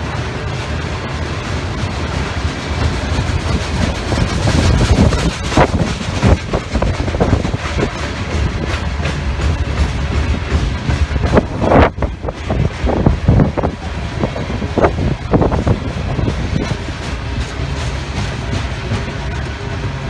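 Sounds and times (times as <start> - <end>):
train rumble: 0.0 - 20.0
train wheels clicking over rail joints: 0.0 - 20.0
wind buffeting microphone: 0.0 - 20.0.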